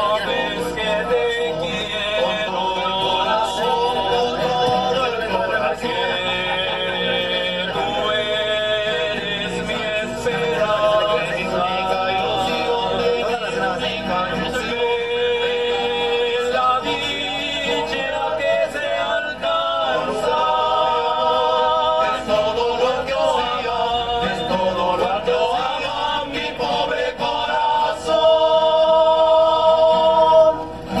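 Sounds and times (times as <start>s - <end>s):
male voices singing in harmony: 0.0s - 31.0s
strummed acoustic guitars: 0.0s - 31.0s.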